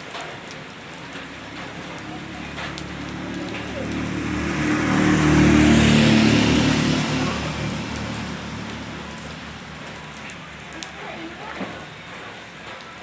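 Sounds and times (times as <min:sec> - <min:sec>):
vehicle passing by: 0:00.0 - 0:12.8
heavy rain and hail: 0:00.0 - 0:13.0.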